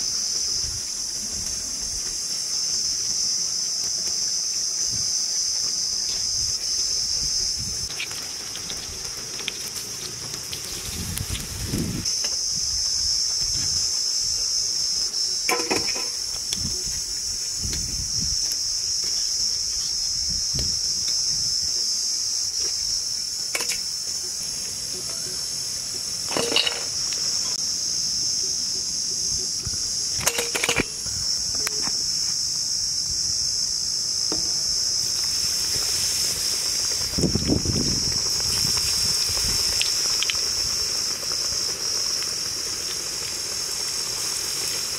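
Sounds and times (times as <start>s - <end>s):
food deep-frying in hot oil: 0.0s - 44.9s.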